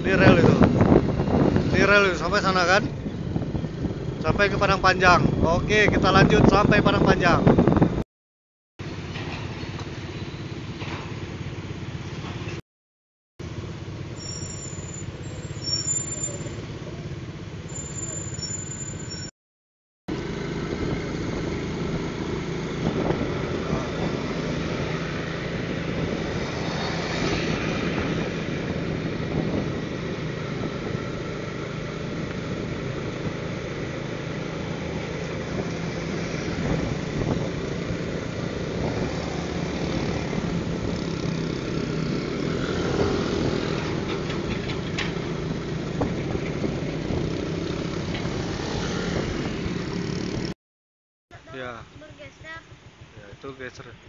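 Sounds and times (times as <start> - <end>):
road noise: 0.0 - 8.0, 8.8 - 12.6, 13.4 - 19.3, 20.1 - 50.6, 51.3 - 54.0.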